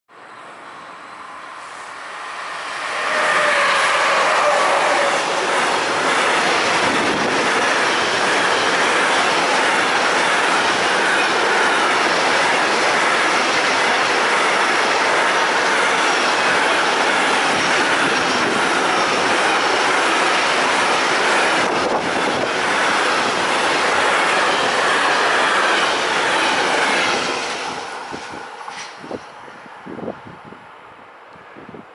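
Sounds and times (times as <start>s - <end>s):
steel wheels rushing on rails: 0.4s - 30.4s.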